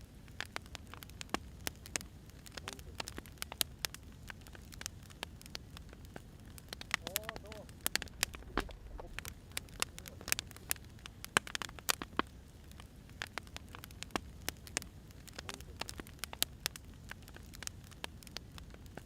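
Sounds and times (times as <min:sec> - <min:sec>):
firewood crackling and popping: 0:00.0 - 0:19.0
low rumble of fire: 0:00.0 - 0:19.0.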